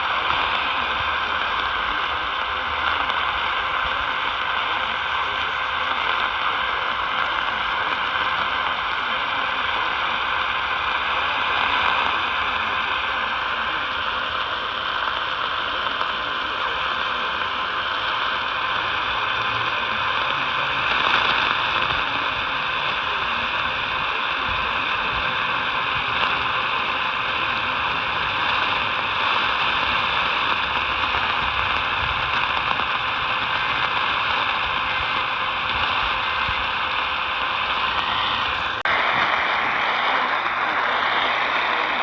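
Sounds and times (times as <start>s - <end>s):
radio static hiss: 0.0s - 42.0s.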